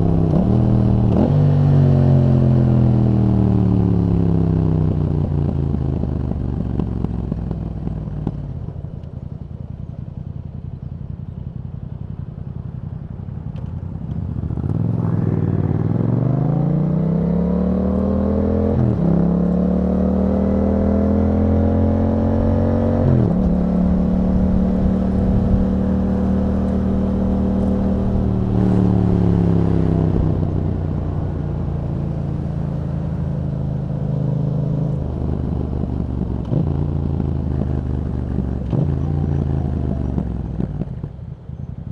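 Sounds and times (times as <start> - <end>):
motorcycle engine revving: 0.0 - 8.8, 14.1 - 41.6.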